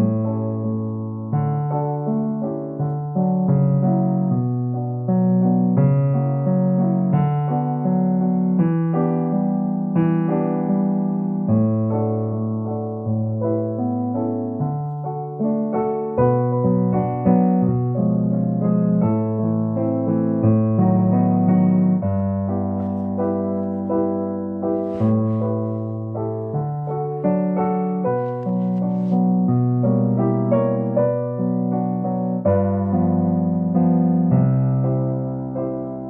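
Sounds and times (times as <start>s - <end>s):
slow piano accompaniment: 0.0s - 36.0s.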